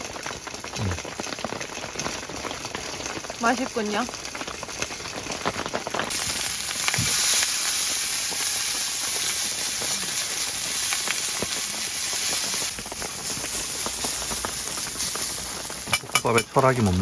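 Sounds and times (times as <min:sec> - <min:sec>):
rice sizzling in a hot pan: 0:00.0 - 0:17.0.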